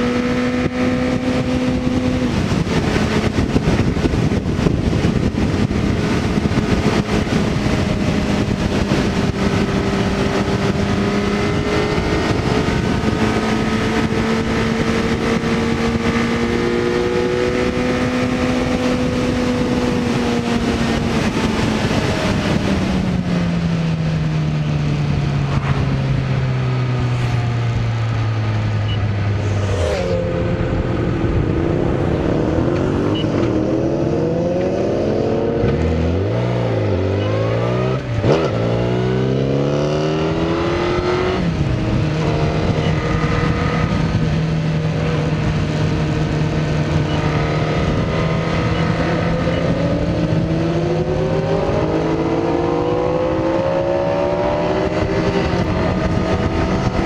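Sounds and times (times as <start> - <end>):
wind rushing: 0.0 - 24.0, 25.0 - 57.0
motorcycle engine: 0.0 - 57.0.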